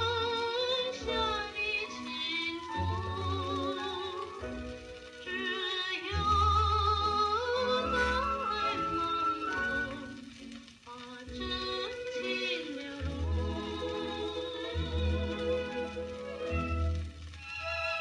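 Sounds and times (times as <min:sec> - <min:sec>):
operatic singer with vibrato: 0:00.0 - 0:18.0.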